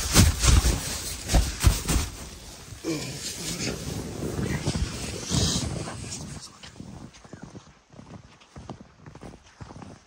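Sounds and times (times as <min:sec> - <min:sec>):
footsteps crunching through snow: 0:00.0 - 0:10.0.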